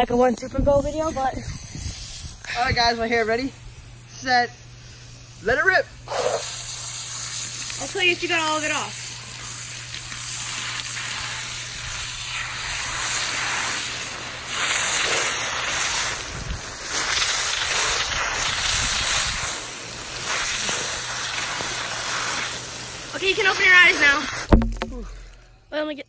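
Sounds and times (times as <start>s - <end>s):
hose spraying water: 0.0s - 24.7s.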